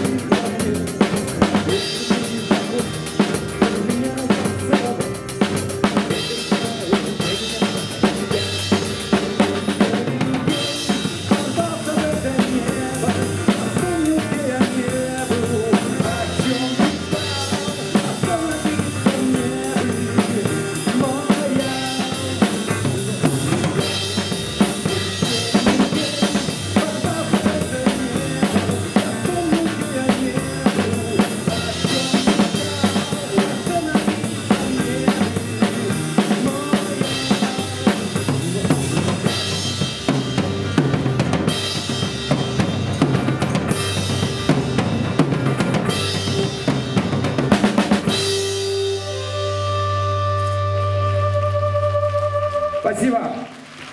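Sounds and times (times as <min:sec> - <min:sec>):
drum kit playing: 0:00.0 - 0:53.2
recorded rock song: 0:00.0 - 0:53.4.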